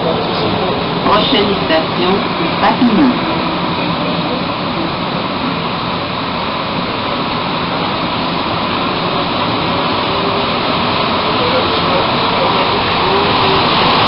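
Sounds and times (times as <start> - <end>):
train rushing through tunnel: 0.0 - 14.0.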